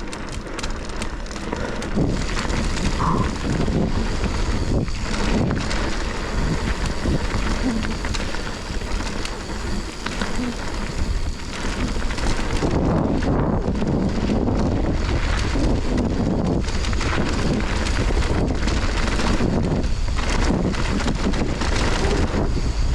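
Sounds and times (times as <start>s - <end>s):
wind buffeting microphone: 1.5s - 22.9s.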